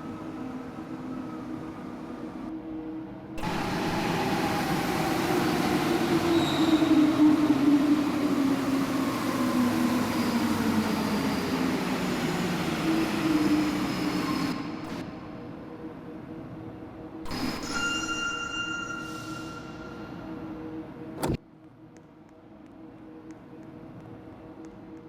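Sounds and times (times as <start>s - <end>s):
metro train running: 0.0s - 21.2s.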